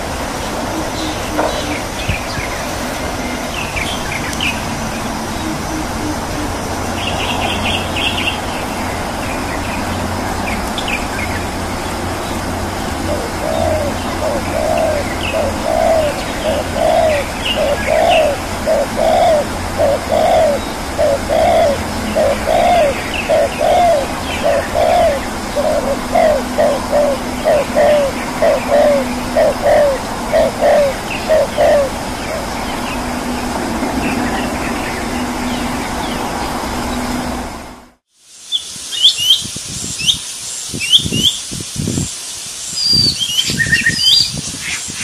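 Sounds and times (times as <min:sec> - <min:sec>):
low repeated bird call: 0:00.0 - 0:37.3
steady low hum: 0:00.0 - 0:38.0.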